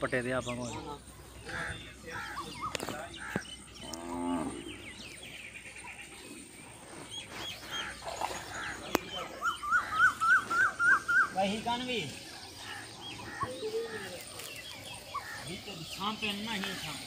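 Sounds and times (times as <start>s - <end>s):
bird chirps: 0.0s - 16.8s.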